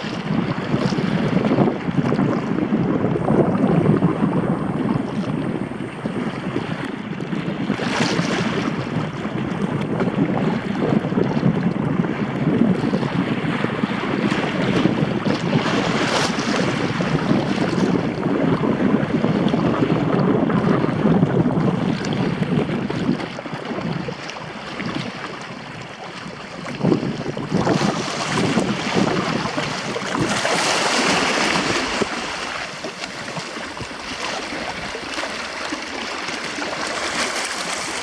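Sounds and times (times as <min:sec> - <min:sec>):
sea water rushing: 0:00.0 - 0:38.0
wind buffeting microphone: 0:00.0 - 0:38.0.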